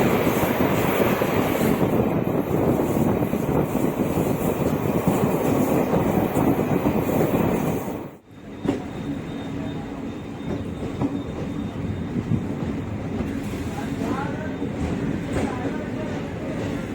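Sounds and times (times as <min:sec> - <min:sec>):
train wheels on rails: 0:00.0 - 0:16.9.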